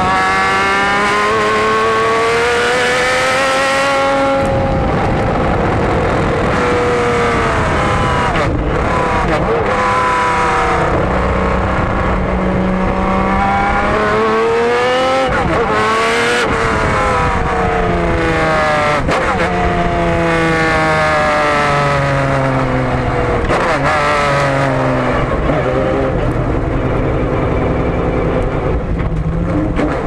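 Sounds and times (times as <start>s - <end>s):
racing car engine at full throttle: 0.0s - 30.0s.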